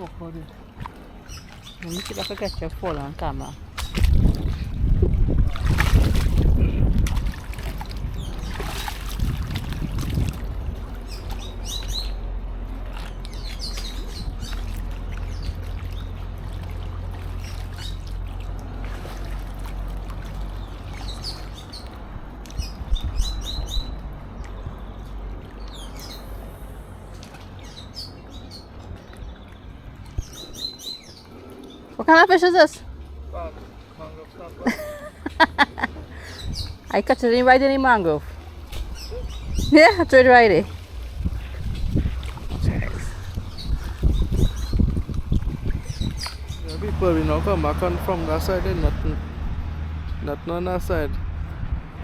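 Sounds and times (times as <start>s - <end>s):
low rumble on microphone: 0.0s - 32.0s, 38.2s - 52.0s
small birds chirping: 1.2s - 4.7s, 7.6s - 12.2s, 12.8s - 18.4s, 20.3s - 48.5s.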